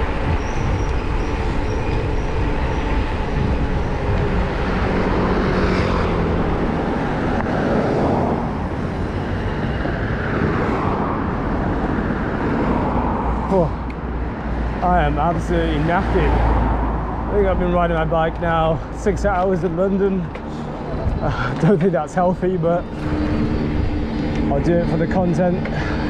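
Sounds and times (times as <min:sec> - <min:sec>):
traffic vehicles running: 0:00.0 - 0:26.0
vehicle engine passing: 0:00.0 - 0:26.0
wind and road noise: 0:00.0 - 0:26.0.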